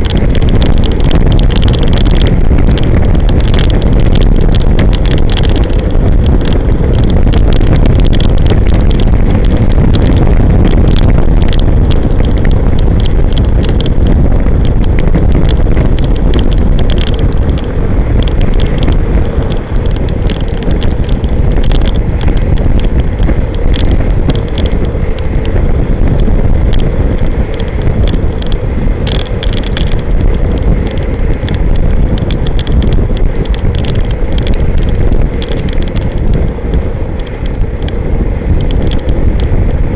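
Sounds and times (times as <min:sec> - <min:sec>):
loud wind roar on microphone: 0:00.0 - 0:39.9.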